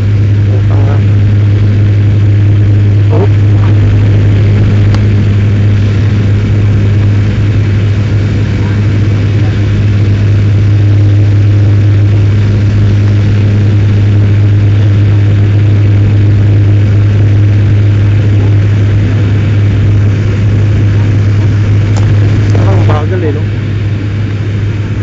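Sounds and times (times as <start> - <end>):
airliner cabin drone: 0.0 - 25.0
strong low hum: 0.0 - 25.0.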